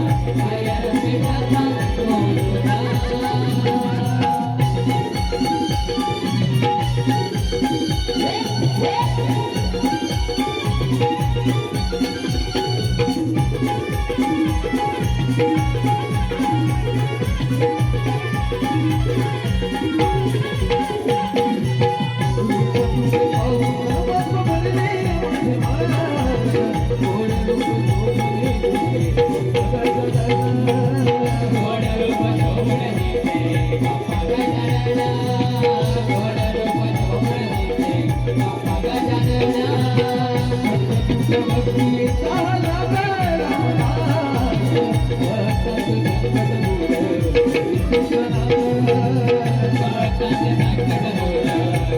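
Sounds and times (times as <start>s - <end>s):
drum beat: 0.0s - 51.9s
rattling percussion: 0.0s - 51.9s.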